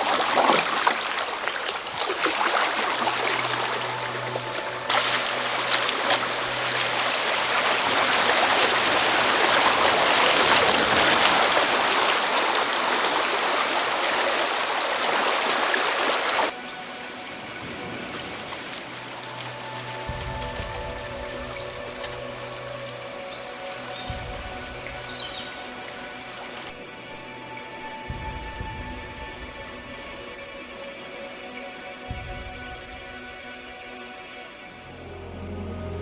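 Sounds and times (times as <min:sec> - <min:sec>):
rushing water: 0:00.0 - 0:36.0.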